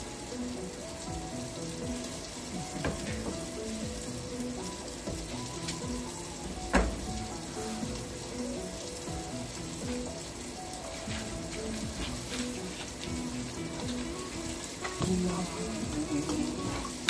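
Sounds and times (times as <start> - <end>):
food sizzling in a pan: 0.0 - 17.0
soft background music: 0.0 - 17.0.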